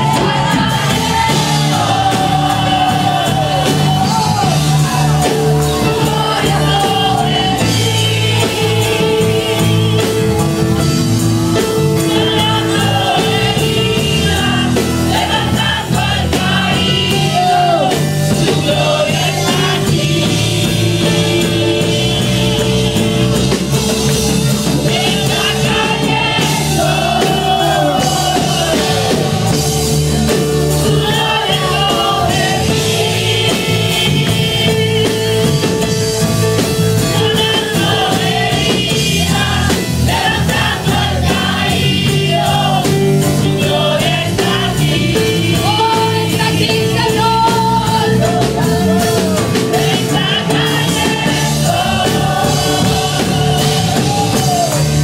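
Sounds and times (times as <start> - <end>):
worship music with singing: 0.0 - 55.0.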